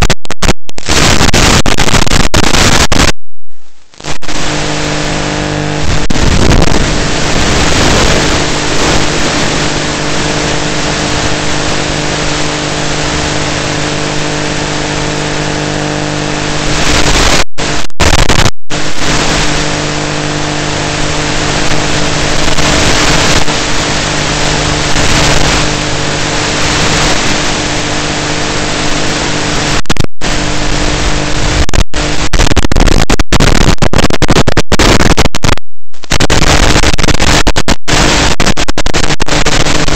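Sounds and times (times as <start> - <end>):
electrical buzz: 0.0 - 39.9
loud static hiss: 0.0 - 39.9.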